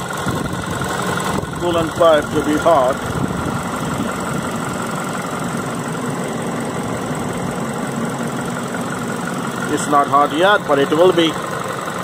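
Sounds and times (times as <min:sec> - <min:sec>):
car engine idling: 0:00.0 - 0:12.0
radiator cooling fan running: 0:00.0 - 0:12.0.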